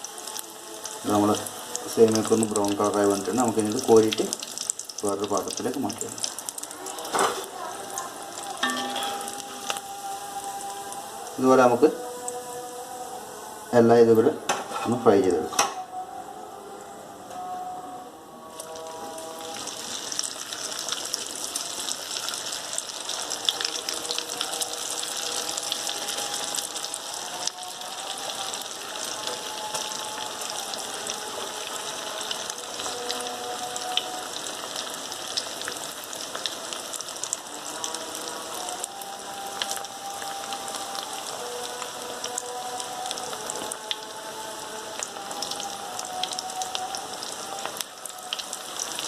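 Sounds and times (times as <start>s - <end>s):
food deep-frying in sizzling oil: 0.0s - 15.6s, 18.4s - 49.0s.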